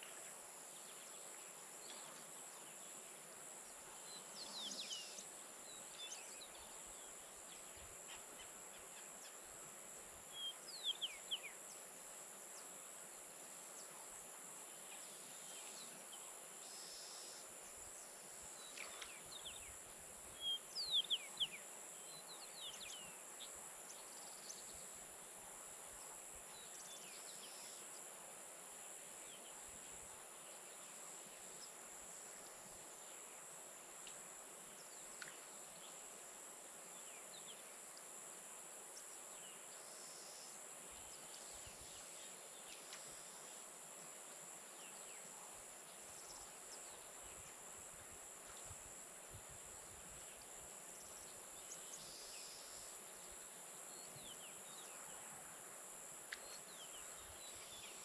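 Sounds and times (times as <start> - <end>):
crickets trilling: 0.0 - 28.1, 28.7 - 58.0.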